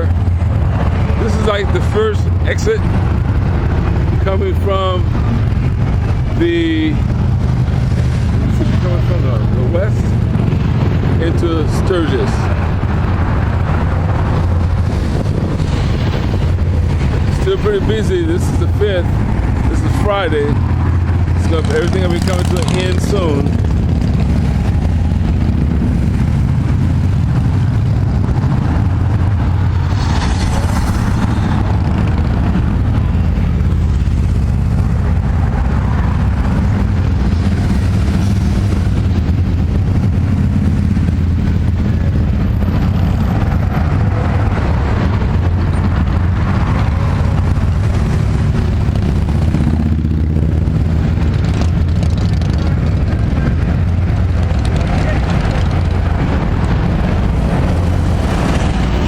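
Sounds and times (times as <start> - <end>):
motorcycle engines rumbling: 0.0 - 59.0.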